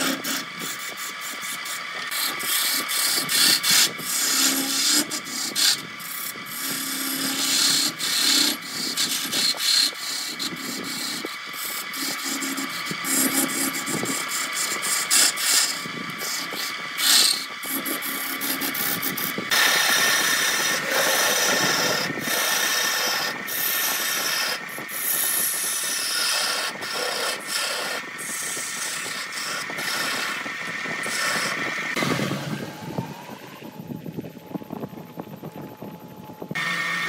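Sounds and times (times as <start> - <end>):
gouge scraping wood on lathe: 0.0 - 32.3
lathe motor whine: 0.0 - 37.0.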